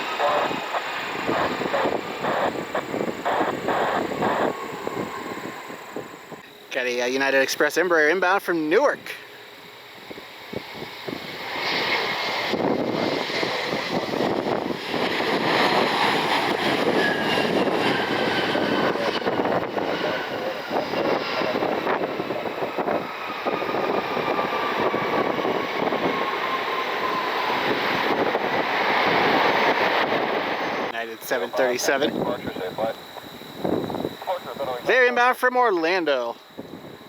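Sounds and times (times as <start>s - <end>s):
jet engines roaring past: 0.0s - 37.0s.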